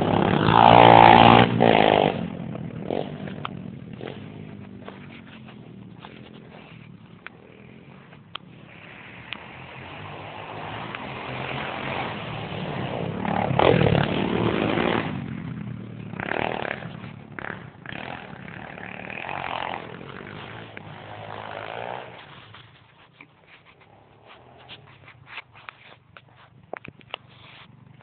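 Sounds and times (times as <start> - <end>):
motorbike engine revving: 0.0 - 22.8.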